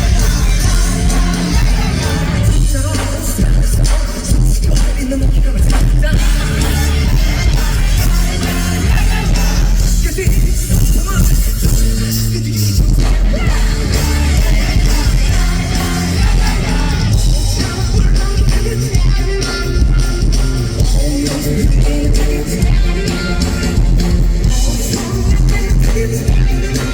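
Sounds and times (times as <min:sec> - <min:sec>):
live rock band playing: 0:00.0 - 0:26.9
man singing lead vocal: 0:00.0 - 0:26.9.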